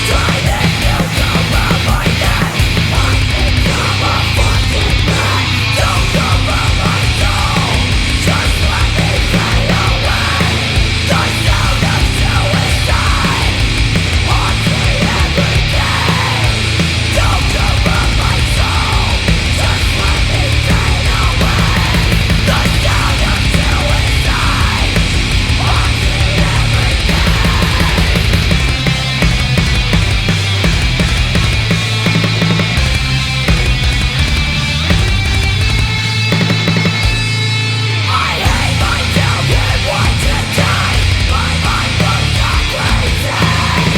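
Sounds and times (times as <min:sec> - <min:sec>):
heavy metal song: 0:00.0 - 0:43.9.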